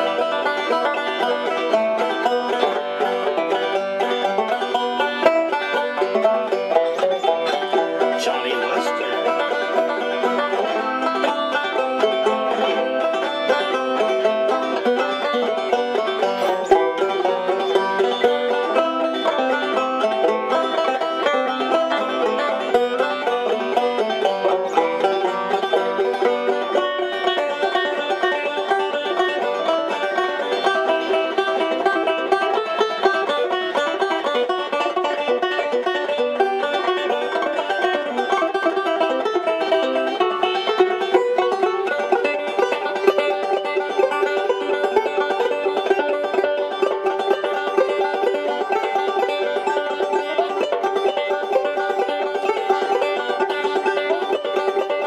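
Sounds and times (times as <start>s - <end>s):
banjo playing: 0.0s - 55.0s.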